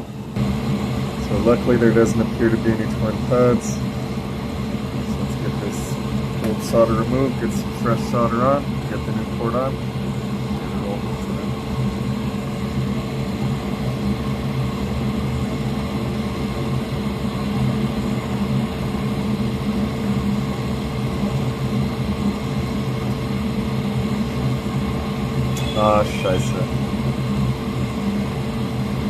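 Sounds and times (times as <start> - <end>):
electric fan hum: 0.0 - 29.0.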